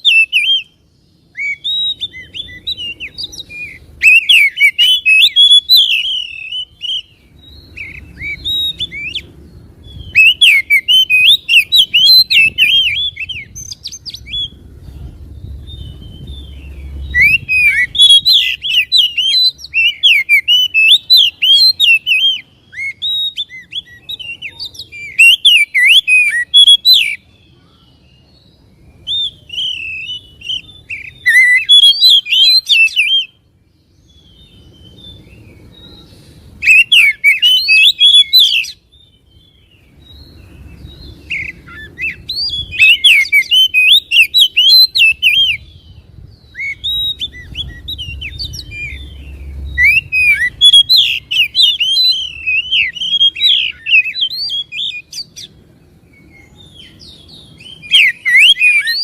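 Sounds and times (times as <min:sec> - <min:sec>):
bird singing whistles and chatter: 0:00.0 - 0:59.0.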